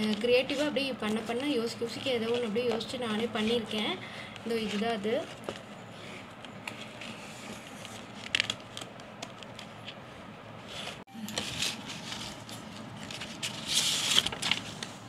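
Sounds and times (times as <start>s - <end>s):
paper rustling: 0.0s - 5.8s, 6.7s - 10.0s, 10.6s - 15.0s.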